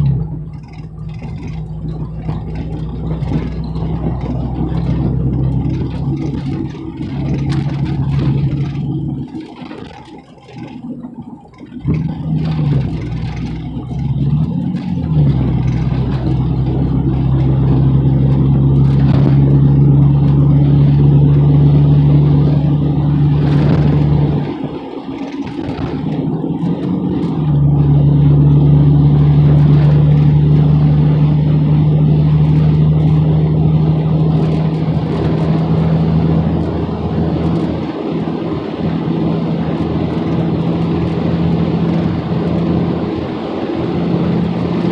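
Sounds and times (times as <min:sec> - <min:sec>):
truck engine and road noise: 0:00.0 - 0:44.9.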